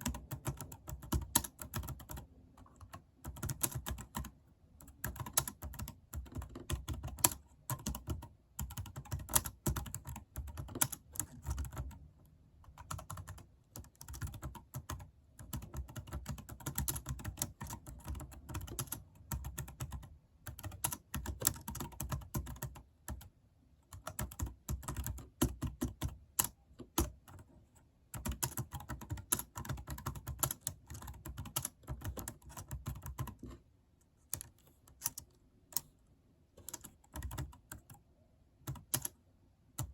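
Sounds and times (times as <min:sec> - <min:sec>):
fast typing on keyboard: 0:00.0 - 0:12.1, 0:12.7 - 0:23.3, 0:23.9 - 0:27.5, 0:28.2 - 0:33.5, 0:36.6 - 0:37.9, 0:38.7 - 0:39.2.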